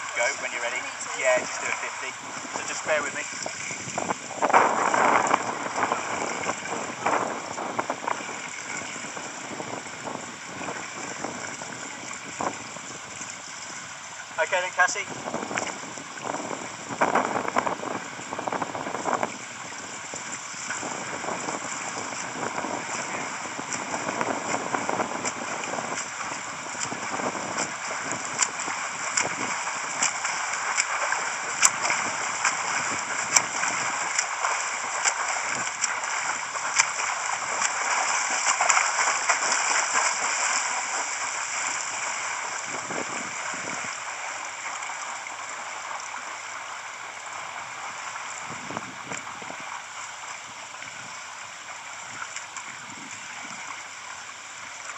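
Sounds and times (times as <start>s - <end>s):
swimmer splashing: 0.0s - 54.9s.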